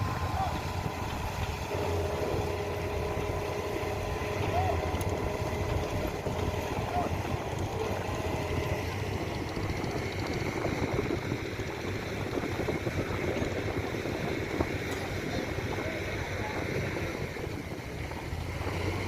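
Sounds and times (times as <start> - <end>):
faint voices: 0.0 - 11.3, 12.9 - 18.1
motor running: 0.0 - 19.0
rumbling outdoor background: 0.0 - 19.0.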